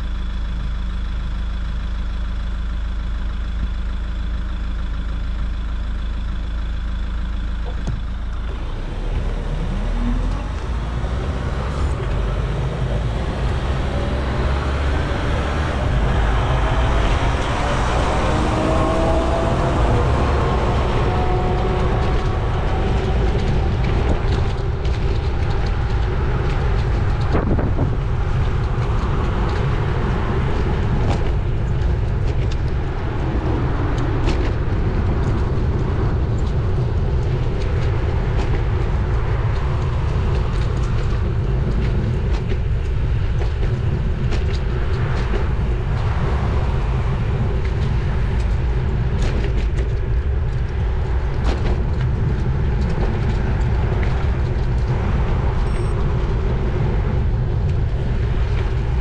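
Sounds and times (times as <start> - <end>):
road noise: 0.0 - 59.0
wind rumble: 7.6 - 59.0.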